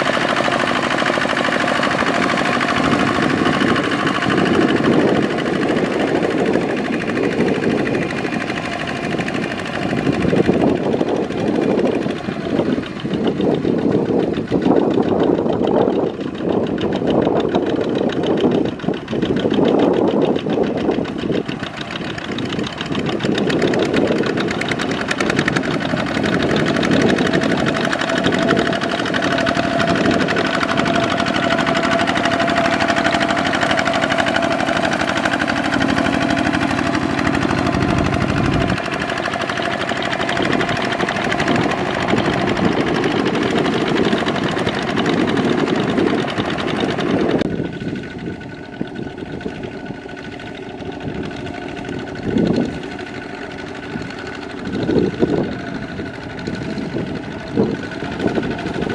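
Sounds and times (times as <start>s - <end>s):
diesel engine chugging: 0.0s - 58.9s.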